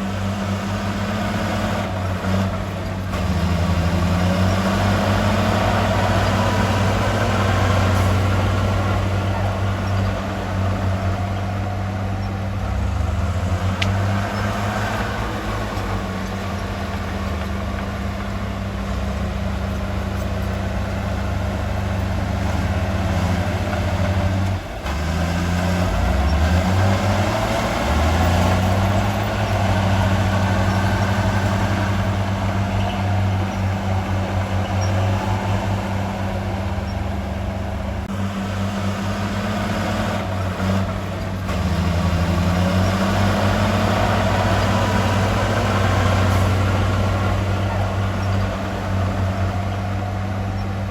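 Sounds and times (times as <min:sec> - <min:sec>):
diesel earthmover engine revving: 0:00.0 - 0:50.9.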